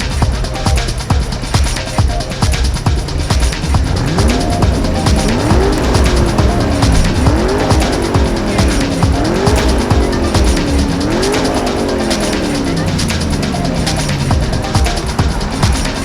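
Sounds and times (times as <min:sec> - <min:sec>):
music with steady beat: 0:00.0 - 0:16.0
sports car engine revving: 0:00.0 - 0:16.0.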